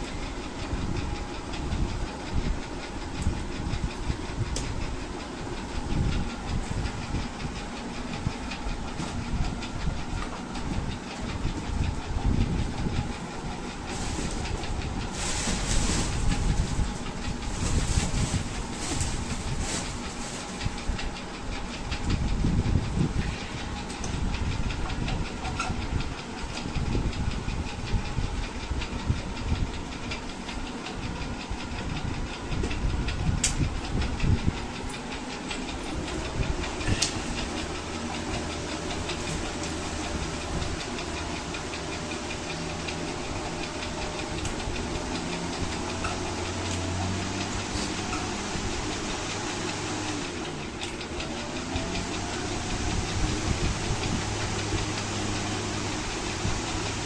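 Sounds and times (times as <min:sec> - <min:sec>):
electric fan humming: 0:00.0 - 0:57.0.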